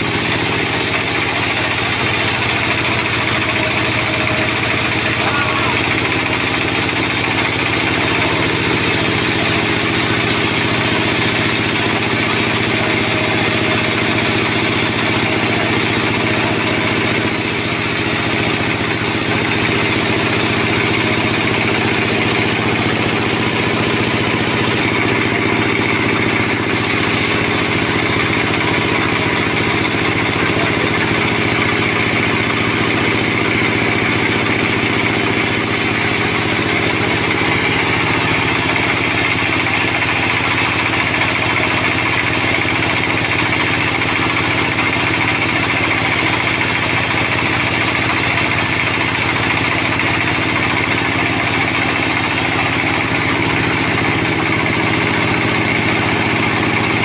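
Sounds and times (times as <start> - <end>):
band sawmill cutting timber: 0.0 - 57.0.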